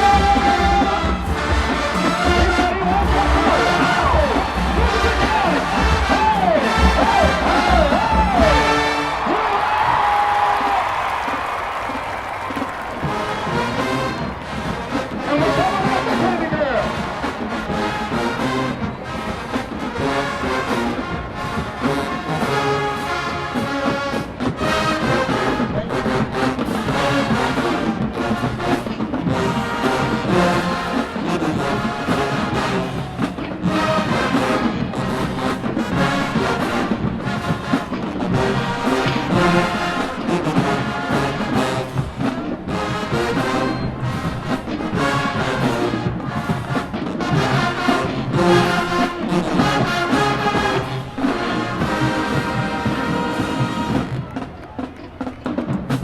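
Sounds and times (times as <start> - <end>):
drumline beat: 0.0 - 56.0
massed brass: 0.0 - 56.0.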